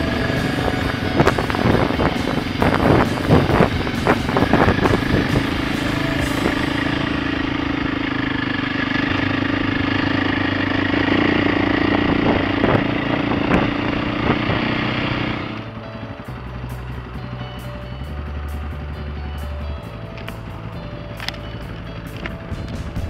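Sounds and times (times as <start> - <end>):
motorcycle engine: 0.0 - 23.0.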